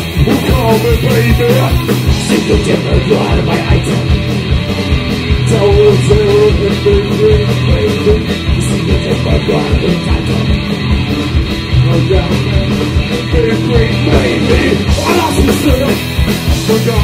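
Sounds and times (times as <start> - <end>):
punk rock band playing: 0.0 - 17.0
sustained guitar line: 0.0 - 17.0.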